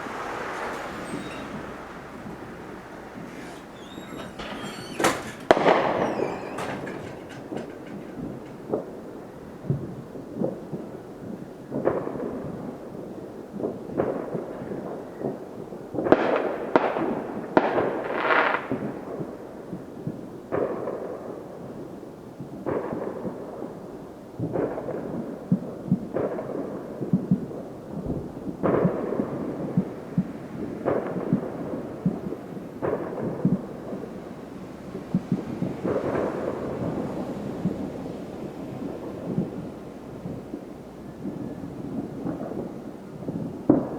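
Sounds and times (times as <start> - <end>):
distant fireworks bangs: 0.0 - 21.5, 24.4 - 43.9.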